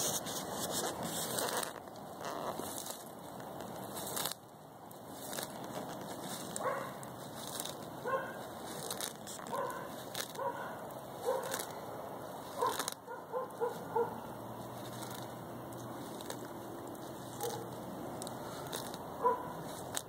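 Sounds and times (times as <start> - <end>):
tortoise crunching weeds: 0.0 - 20.0.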